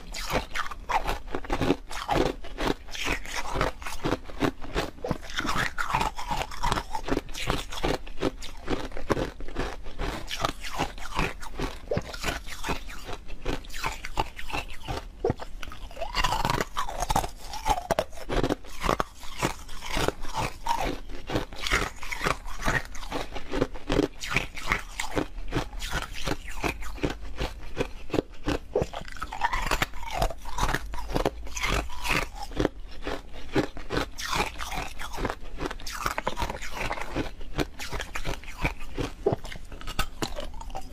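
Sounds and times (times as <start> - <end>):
ice being chewed crunching: 0.0 - 40.9.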